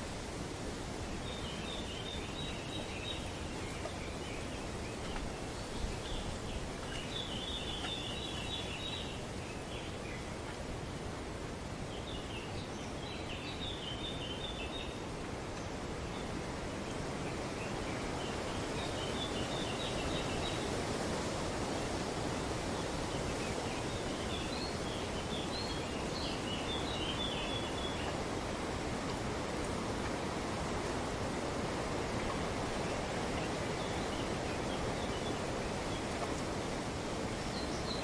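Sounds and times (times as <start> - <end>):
wind rustling foliage: 0.0 - 38.0.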